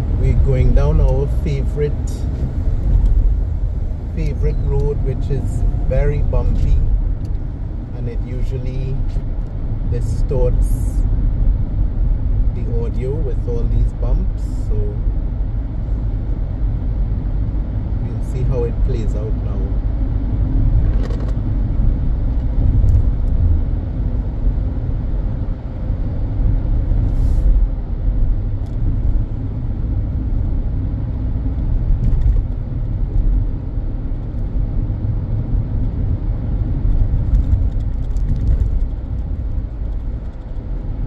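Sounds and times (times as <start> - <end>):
road and engine rumble inside car: 0.0 - 41.0.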